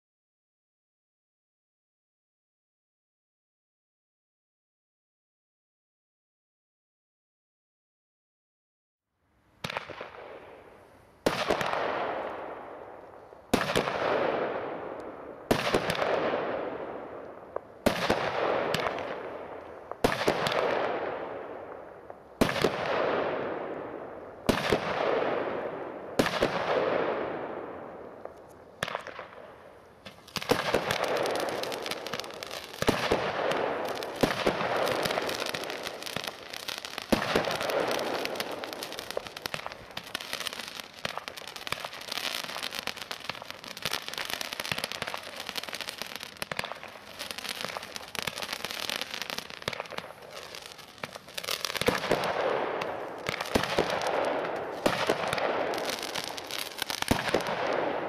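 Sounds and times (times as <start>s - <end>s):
fireworks cake firing: 9.6s - 58.0s.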